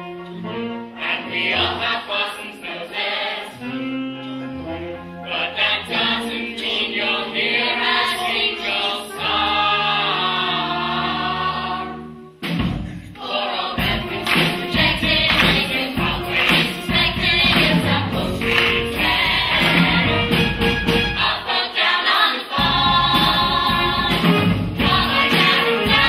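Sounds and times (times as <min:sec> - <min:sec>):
chorus singing with band: 0:01.0 - 0:03.6, 0:05.3 - 0:12.1, 0:13.1 - 0:26.0.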